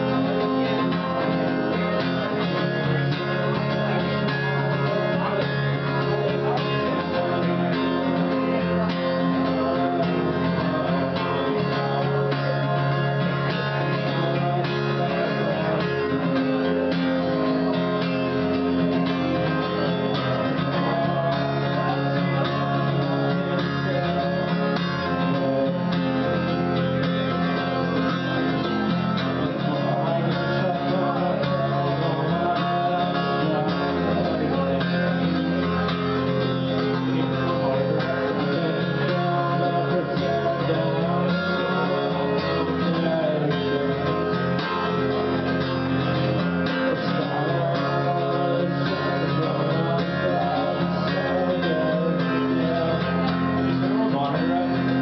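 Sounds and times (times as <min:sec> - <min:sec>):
live guitar music: 0:00.0 - 0:55.0.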